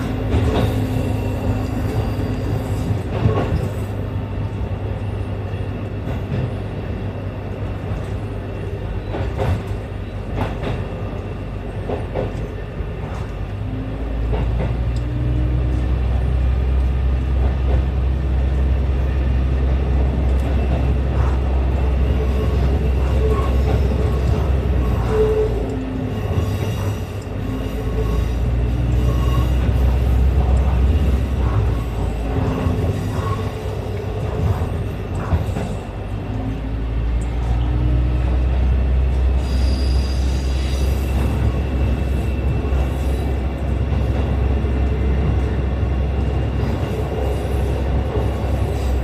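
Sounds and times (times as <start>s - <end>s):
railcar engine drone: 0.0s - 49.0s
wheel and rail noise: 0.0s - 49.0s.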